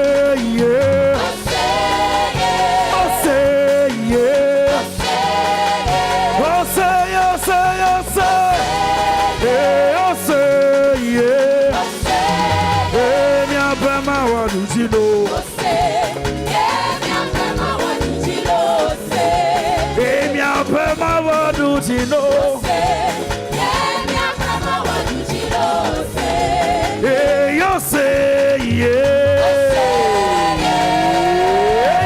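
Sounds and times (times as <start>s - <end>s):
full band accompaniment: 0.0s - 32.0s
person singing with vibrato: 0.0s - 32.0s.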